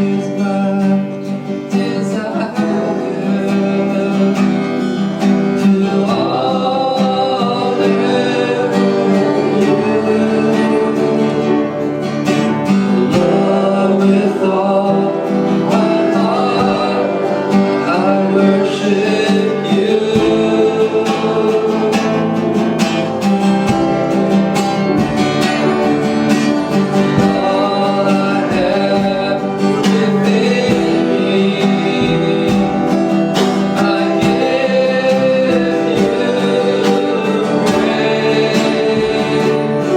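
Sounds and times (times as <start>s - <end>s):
acoustic guitar strumming: 0.0s - 39.9s
voices singing: 0.0s - 39.9s.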